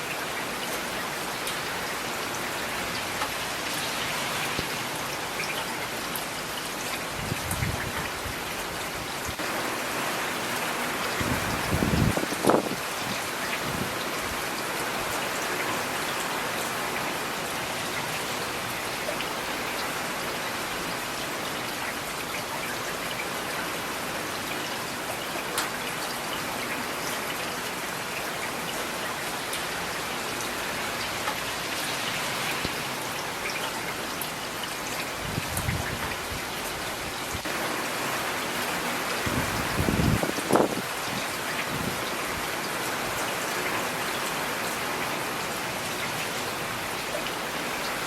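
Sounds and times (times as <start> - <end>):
rain pattering on a surface: 0.0 - 48.0.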